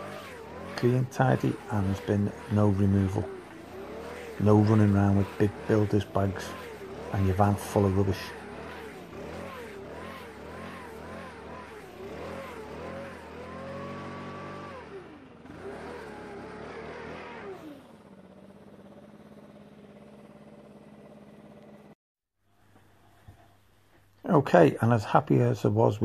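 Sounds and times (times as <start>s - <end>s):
leaf blower engine revving: 0.0s - 22.0s.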